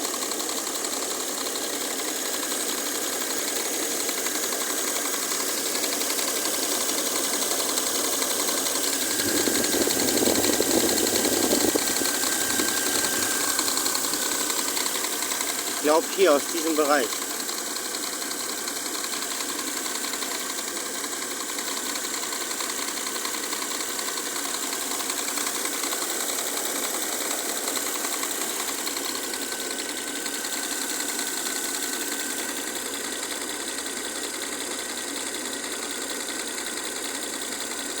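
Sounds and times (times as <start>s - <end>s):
car engine idling: 0.1s - 38.0s.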